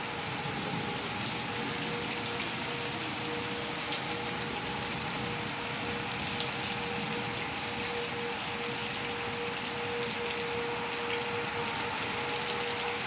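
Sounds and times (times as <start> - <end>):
rain pouring: 0.0 - 13.0.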